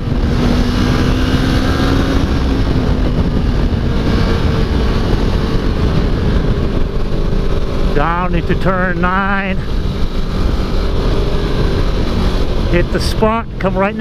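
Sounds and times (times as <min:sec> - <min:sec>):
loud rush of wind noise: 0:00.0 - 0:14.0
motorcycle engine running: 0:00.0 - 0:14.0.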